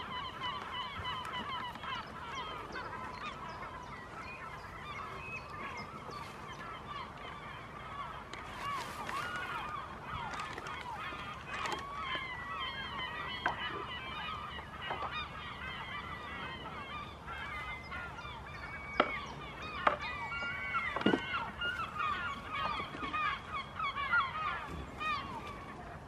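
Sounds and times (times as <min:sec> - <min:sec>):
flock of birds calling: 0:00.0 - 0:26.0.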